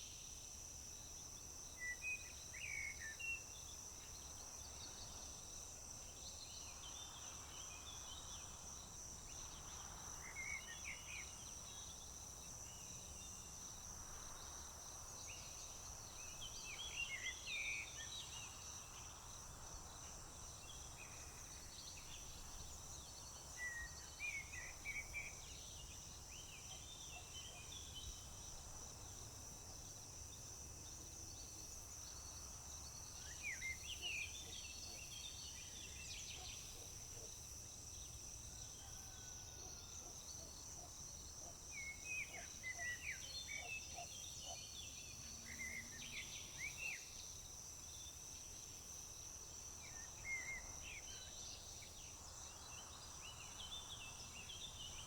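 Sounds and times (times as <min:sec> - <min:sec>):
crickets trilling: 0:06.6 - 0:55.0.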